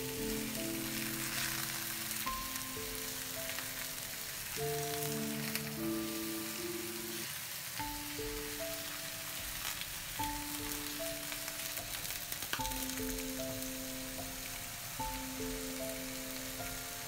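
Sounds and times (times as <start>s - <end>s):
pork sizzling in a pan: 0.0s - 17.0s
soft background music: 0.0s - 17.0s.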